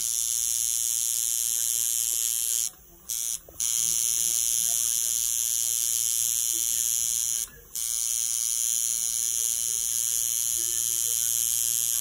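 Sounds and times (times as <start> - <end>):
handheld electric tool buzzing: 0.0 - 12.0.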